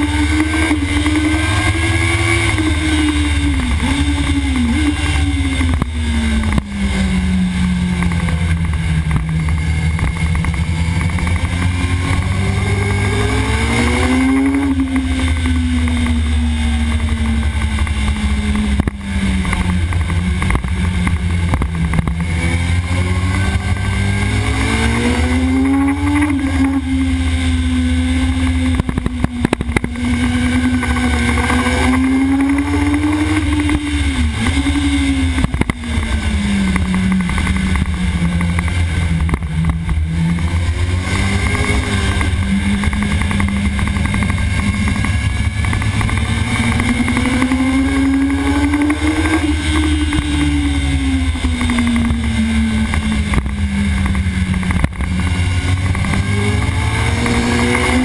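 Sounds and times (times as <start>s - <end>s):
low wind rumble: 0.0s - 58.0s
motorcycle engine revving: 0.0s - 58.0s.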